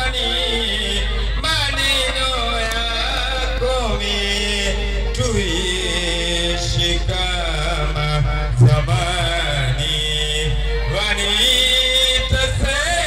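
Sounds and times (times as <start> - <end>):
heavy bass music: 0.0 - 12.9.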